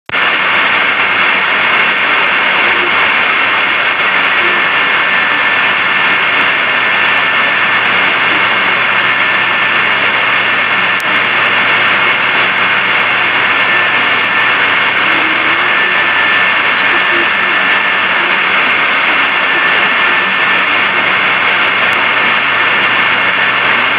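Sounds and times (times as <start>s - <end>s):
loud filtered hiss: 0.0s - 23.9s.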